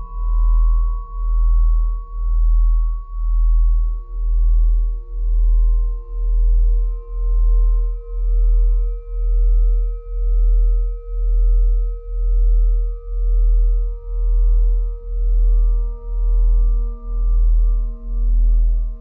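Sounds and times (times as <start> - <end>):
deep pulsing bass tone: 0.0 - 19.0.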